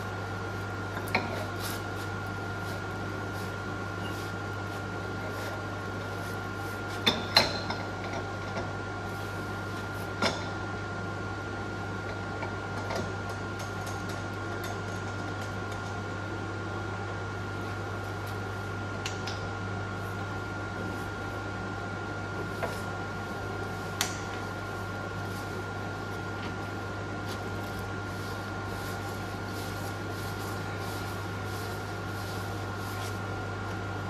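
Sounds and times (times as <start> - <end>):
milling machine hum and whine: 0.0 - 34.0.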